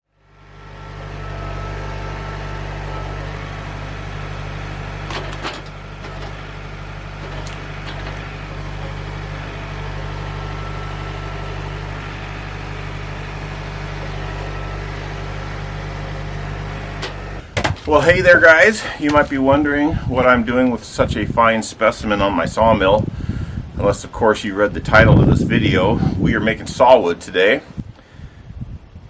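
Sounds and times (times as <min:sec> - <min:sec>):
engine running steadily: 0:00.1 - 0:29.0.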